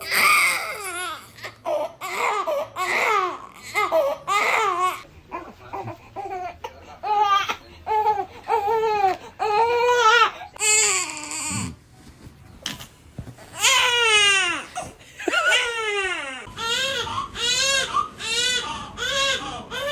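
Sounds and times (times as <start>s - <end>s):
baby crying: 0.0s - 11.7s, 13.6s - 19.9s.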